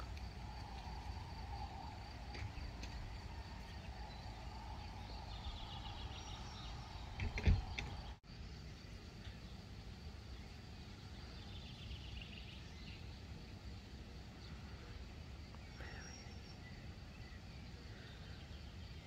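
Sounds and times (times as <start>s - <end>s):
high insect song: 0.0s - 19.0s.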